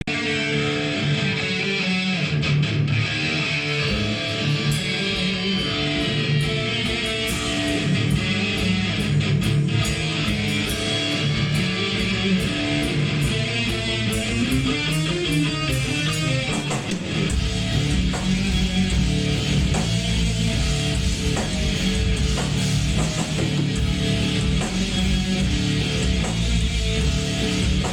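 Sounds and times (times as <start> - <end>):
guitar-led metal music: 0.0 - 27.9.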